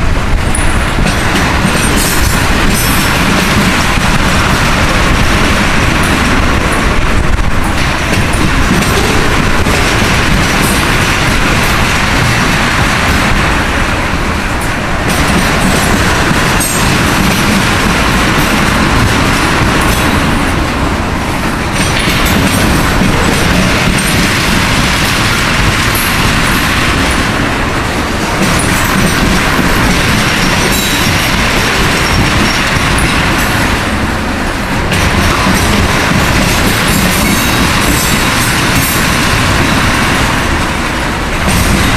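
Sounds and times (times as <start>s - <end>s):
steel wheels rumbling on rail: 0.0s - 41.9s.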